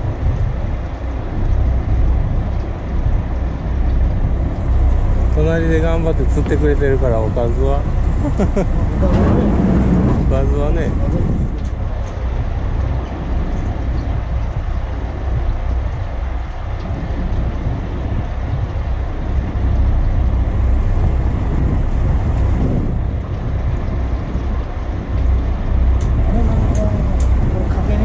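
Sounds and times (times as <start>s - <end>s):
low rumble of boat: 0.0s - 28.0s
wind buffeting microphone: 0.0s - 28.0s.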